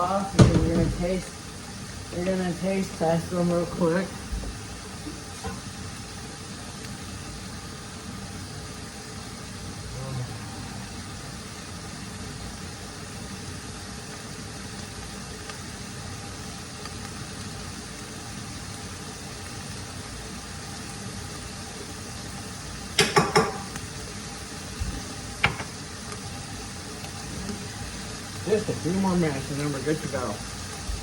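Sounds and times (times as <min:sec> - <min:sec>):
food sizzling: 0:00.0 - 0:31.0.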